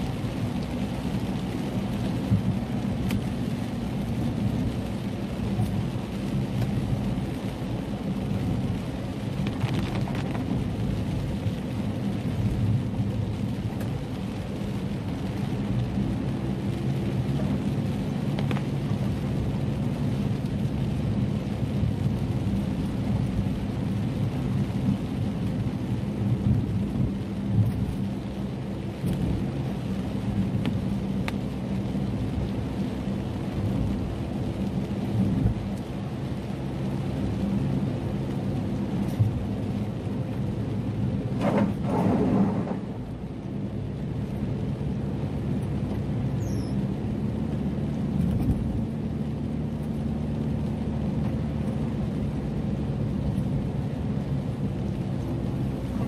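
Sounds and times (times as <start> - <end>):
heavy rain falling: 0.0 - 56.0
sharp raindrop hits: 0.0 - 56.0.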